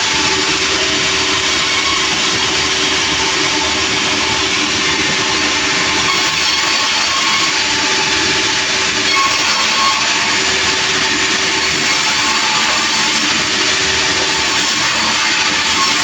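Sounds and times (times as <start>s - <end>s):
sawmill machine noise: 0.0s - 16.0s.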